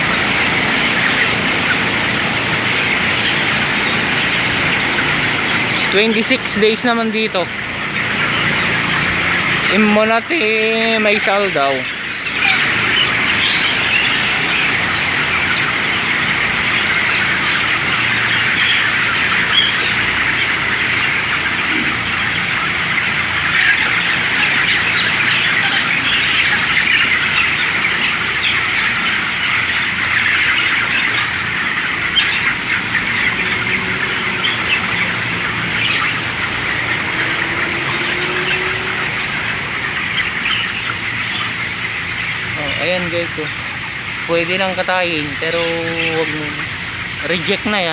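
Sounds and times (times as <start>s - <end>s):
chickens chirping and squawking: 0.0s - 47.9s.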